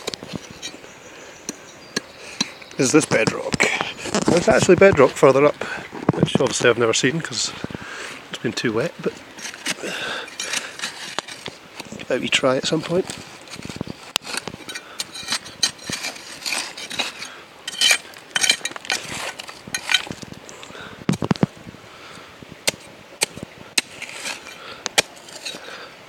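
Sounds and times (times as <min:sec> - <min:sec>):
metal tool scraping on stones: 0:00.0 - 0:07.8, 0:08.5 - 0:21.4, 0:22.7 - 0:25.8.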